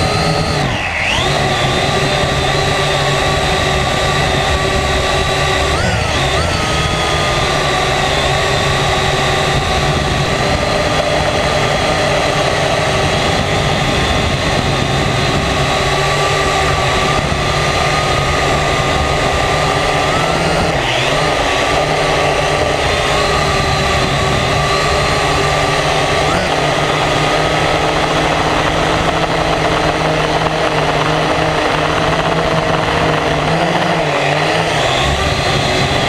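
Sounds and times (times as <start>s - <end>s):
drone propellers buzzing: 0.0s - 36.0s.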